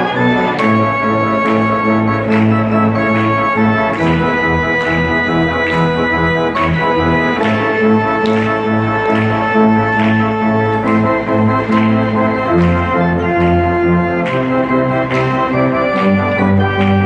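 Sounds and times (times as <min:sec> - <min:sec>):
church organ playing: 0:00.0 - 0:17.0.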